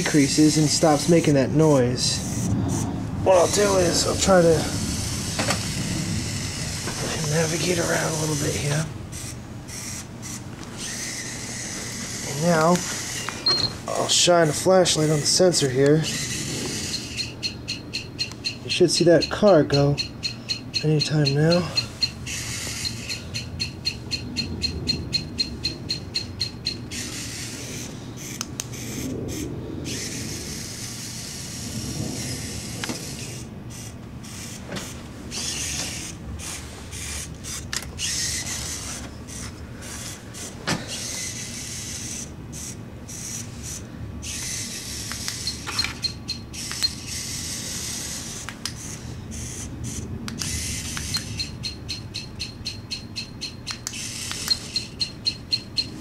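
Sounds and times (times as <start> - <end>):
small motors and gears whirring: 0.0 - 56.0.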